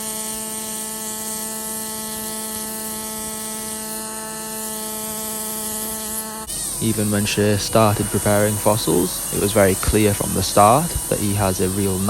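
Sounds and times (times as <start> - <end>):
air hissing: 0.0 - 12.0
pneumatic air tool buzzing: 0.0 - 12.0.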